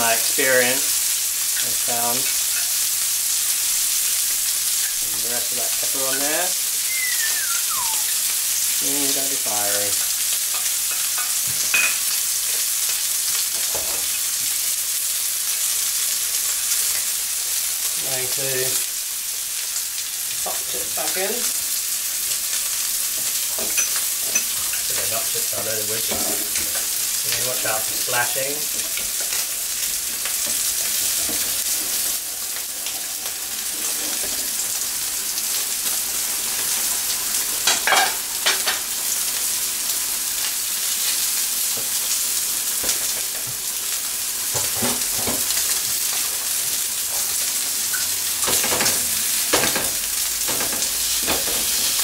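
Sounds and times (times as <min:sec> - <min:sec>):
steaks sizzling in frying pan: 0:00.0 - 0:52.0.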